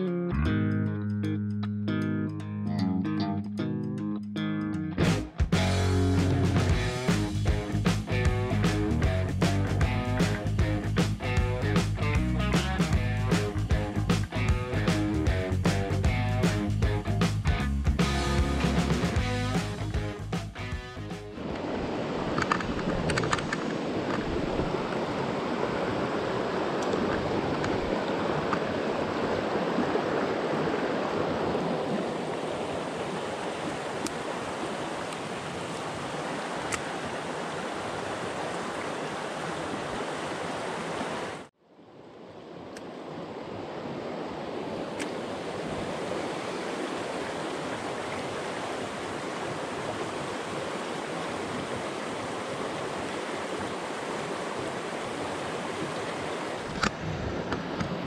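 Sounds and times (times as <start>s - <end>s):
creek rushing over rocks: 5.6s - 41.5s, 42.4s - 58.0s.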